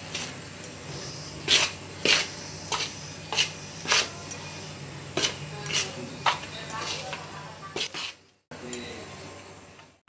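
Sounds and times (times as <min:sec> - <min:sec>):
spoon scraping steel bowl: 0:00.1 - 0:08.2.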